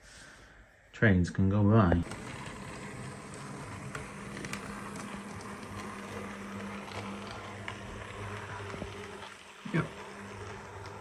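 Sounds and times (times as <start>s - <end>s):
model train motor hum: 2.0s - 11.0s
wheels clicking on rails: 2.0s - 11.0s.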